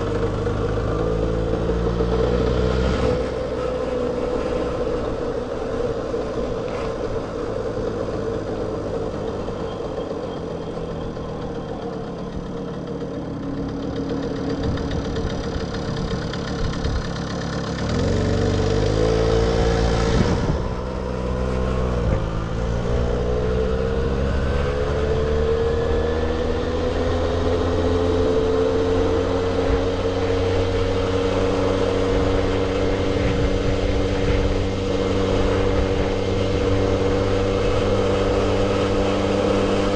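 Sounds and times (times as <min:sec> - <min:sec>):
moped two-stroke engine revving: 0:00.0 - 0:39.9.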